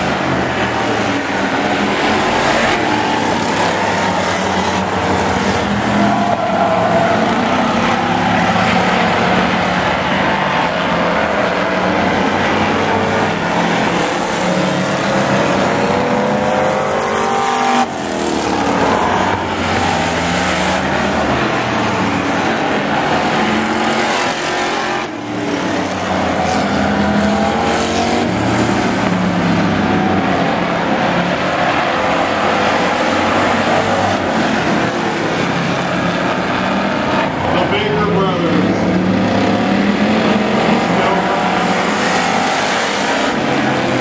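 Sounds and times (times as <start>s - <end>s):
truck engines revving while racing: 0.0s - 44.0s.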